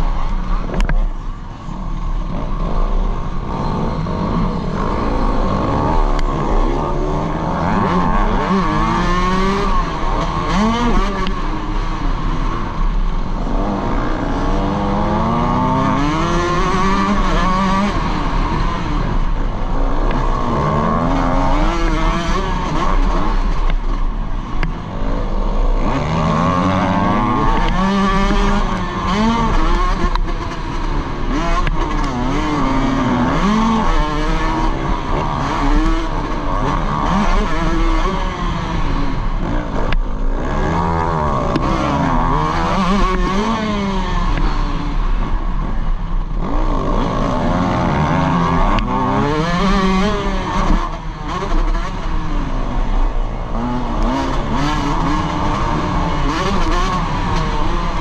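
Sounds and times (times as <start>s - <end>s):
dirt bike engine revving: 2.2s - 58.0s.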